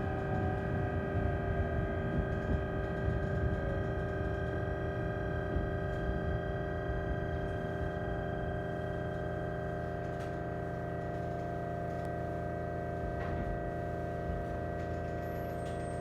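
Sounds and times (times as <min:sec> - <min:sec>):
electric train equipment humming: 0:00.0 - 0:16.0.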